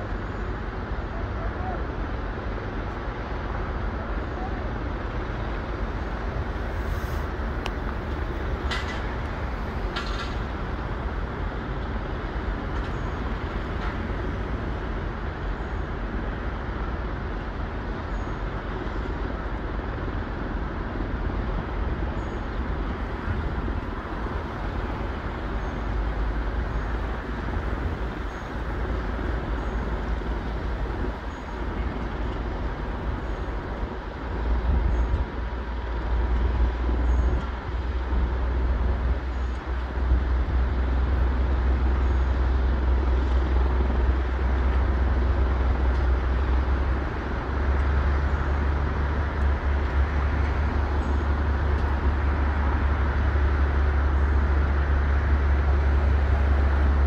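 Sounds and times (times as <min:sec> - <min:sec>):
diesel engine under load: 0:00.0 - 0:57.0.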